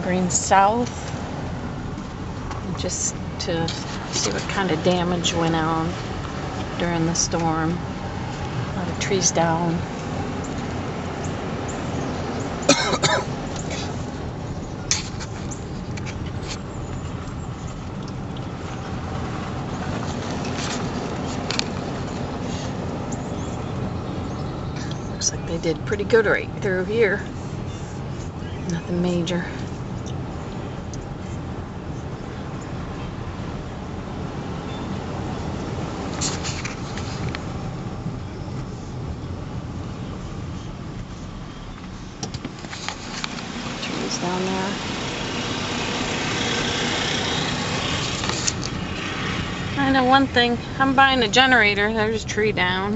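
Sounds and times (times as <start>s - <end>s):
car road and engine rumble: 0.0s - 52.9s.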